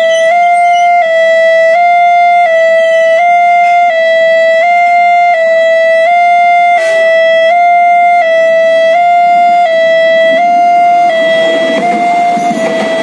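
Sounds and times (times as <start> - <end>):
level crossing alarm two-note tone: 0.0 - 13.0.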